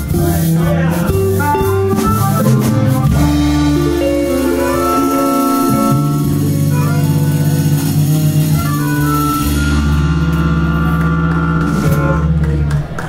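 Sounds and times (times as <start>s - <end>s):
live blues band: 0.0s - 13.0s
saxophone: 0.0s - 13.0s.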